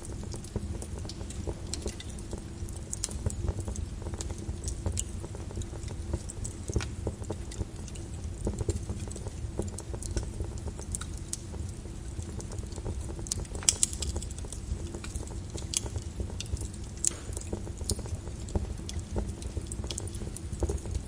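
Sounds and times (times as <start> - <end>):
lava crackling and popping: 0.0 - 21.0.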